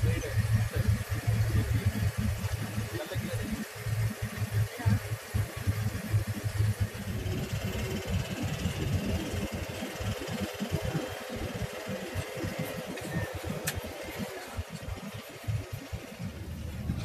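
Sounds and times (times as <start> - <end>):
vehicle engine and tyres rumbling: 0.0 - 17.0.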